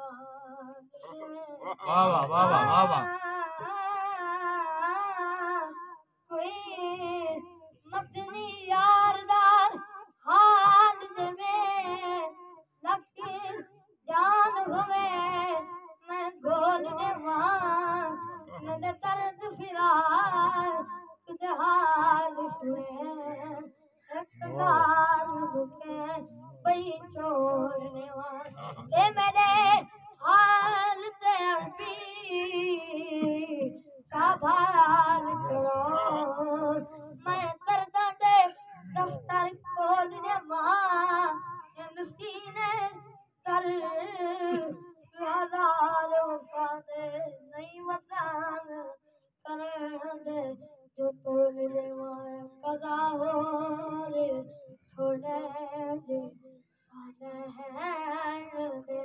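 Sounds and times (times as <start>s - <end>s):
boy singing unaccompanied: 0.0s - 59.0s.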